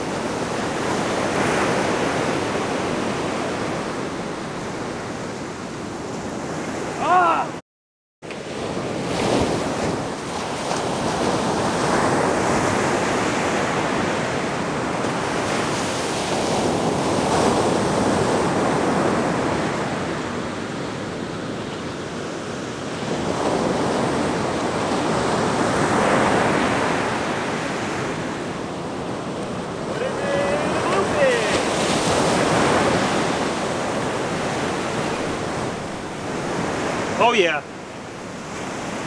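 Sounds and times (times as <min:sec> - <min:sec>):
ocean surf breaking: 0:00.0 - 0:07.6, 0:08.3 - 0:39.0.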